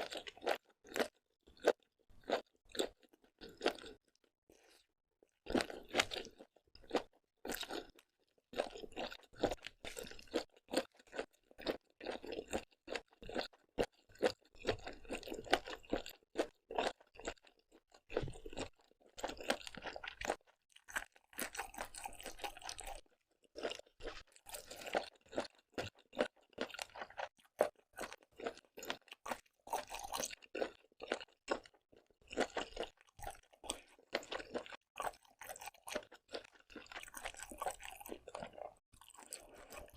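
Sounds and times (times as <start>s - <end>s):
chewing and crunching seafood: 0.0s - 39.9s.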